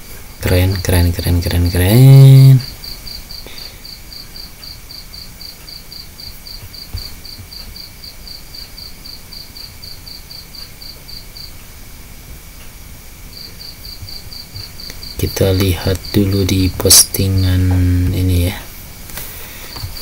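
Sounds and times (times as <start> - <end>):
faint high whine: 0.0 - 20.0
cricket chirping: 0.1 - 20.0.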